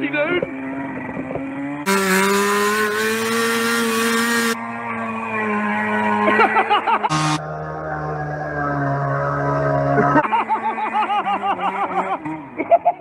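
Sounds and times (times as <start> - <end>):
go-kart engine revving hard: 0.4 - 13.0.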